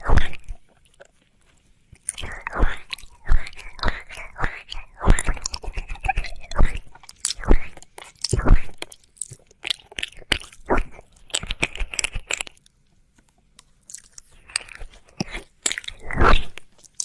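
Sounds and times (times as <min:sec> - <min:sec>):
wet mouth licking sounds: 0:00.0 - 0:01.2, 0:02.0 - 0:12.6, 0:13.9 - 0:17.0.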